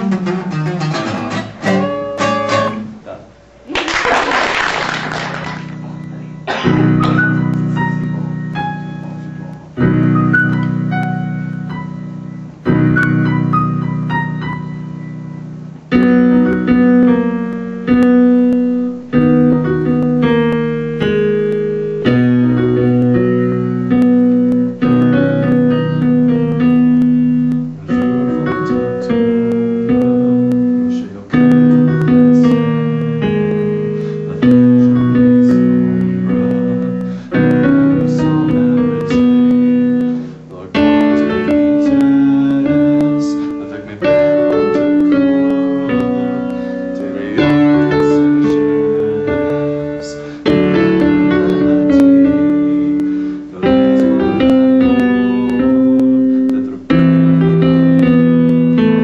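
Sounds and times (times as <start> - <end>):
electric piano chords: 0.0 - 59.0.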